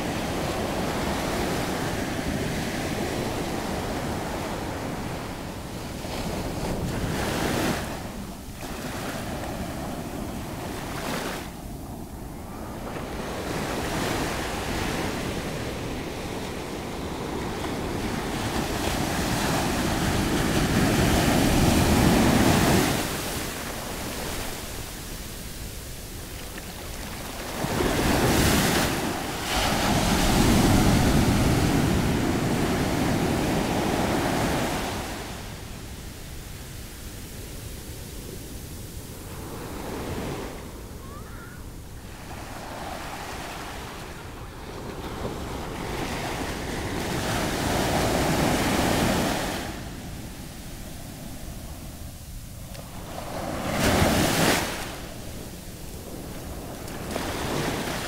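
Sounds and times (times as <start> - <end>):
ocean surf breaking: 0.0 - 37.5, 39.0 - 58.0.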